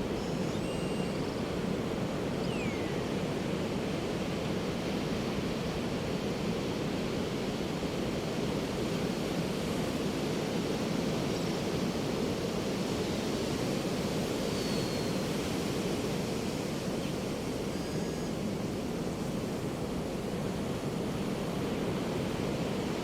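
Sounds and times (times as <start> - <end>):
ocean surf breaking on beach: 3.0 - 23.0.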